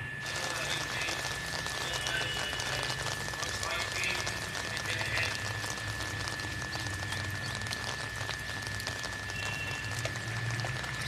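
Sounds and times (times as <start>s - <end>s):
high-pitched whine: 0.0s - 11.0s
steady rain falling: 0.2s - 11.0s.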